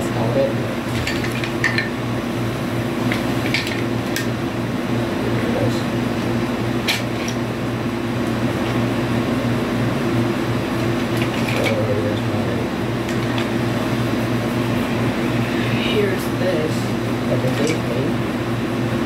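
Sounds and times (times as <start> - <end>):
air conditioner hum: 0.0 - 19.0.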